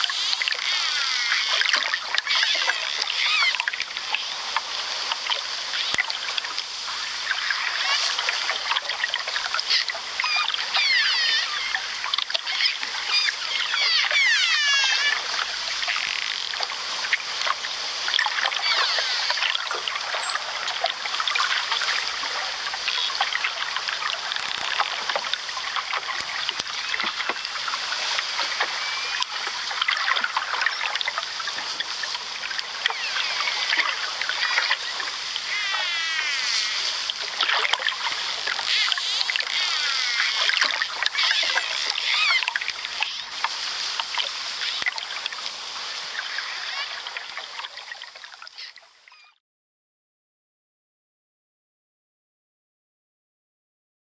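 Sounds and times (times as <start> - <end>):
running water splashing: 0.0 - 49.3.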